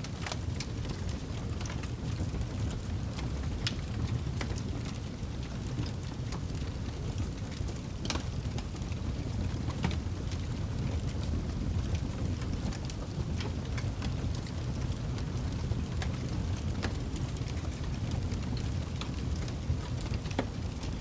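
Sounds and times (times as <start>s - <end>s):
low rumble of flames: 0.0s - 21.0s
campfire crackling and popping: 0.1s - 21.0s.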